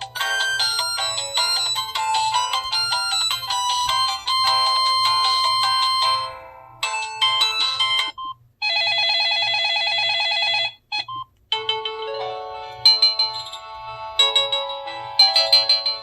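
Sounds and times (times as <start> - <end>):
phone ringtone melodies: 0.0 - 16.0.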